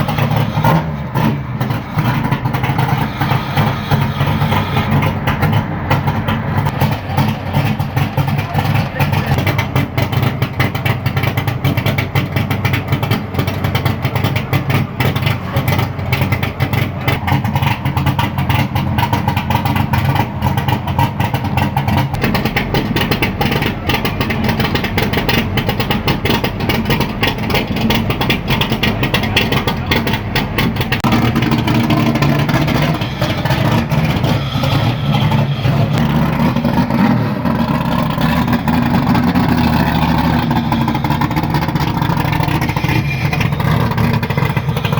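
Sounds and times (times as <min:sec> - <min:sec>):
car engine revving high: 0:00.0 - 0:44.9.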